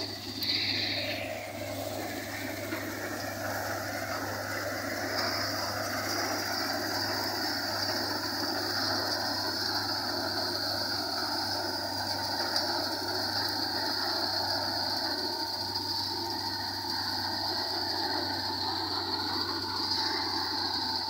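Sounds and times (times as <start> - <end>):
threshing machine clatter: 0.0 - 21.0
tractor engine humming: 0.0 - 21.0.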